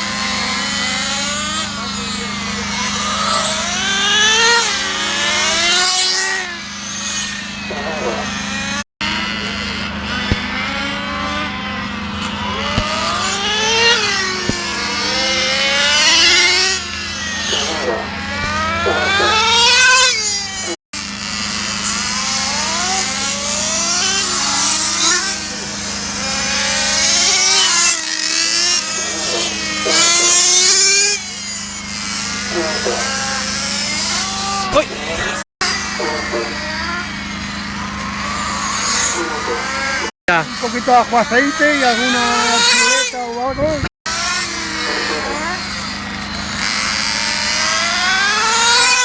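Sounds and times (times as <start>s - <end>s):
motors whining: 0.0s - 49.0s.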